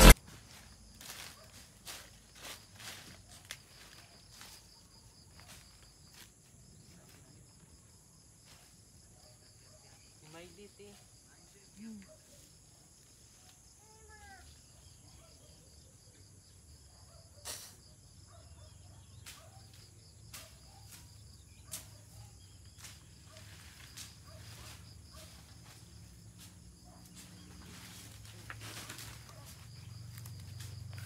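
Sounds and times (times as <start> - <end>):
insects trilling: 0.5 - 31.0.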